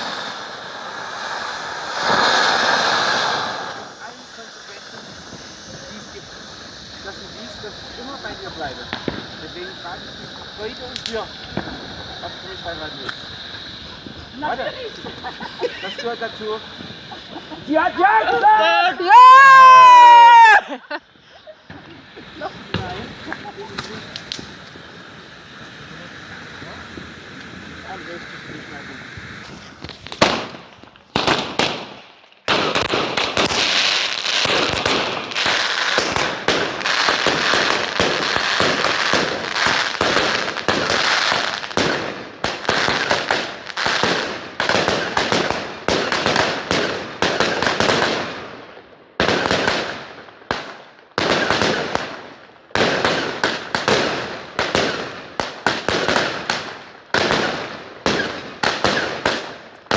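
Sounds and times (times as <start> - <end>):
firecracker bangs and crackling: 0.0 - 18.5, 19.1 - 59.9.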